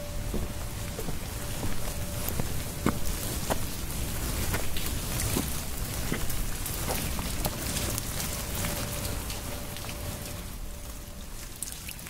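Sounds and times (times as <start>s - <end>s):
heavy rain: 0.0s - 12.0s
water drips and splashes: 1.2s - 12.0s.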